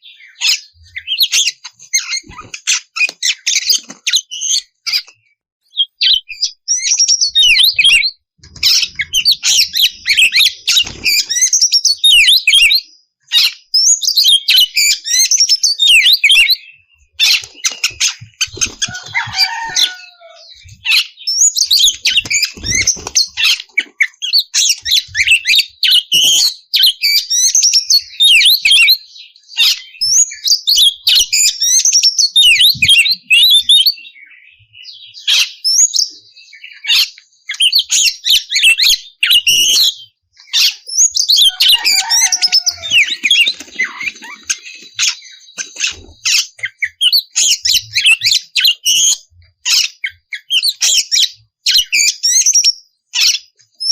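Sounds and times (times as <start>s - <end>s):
bird singing whistled notes: 0.0s - 18.6s, 19.2s - 53.9s.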